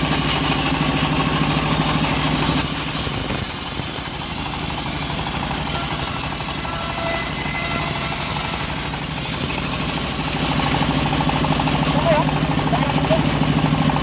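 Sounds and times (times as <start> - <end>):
bandsaw mill engine hum: 0.0 - 14.0.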